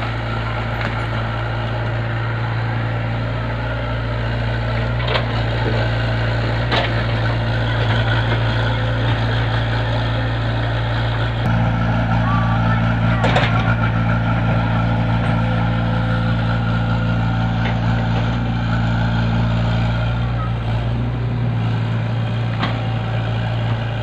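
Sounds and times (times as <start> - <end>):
heavy machinery engine running: 0.0 - 24.0.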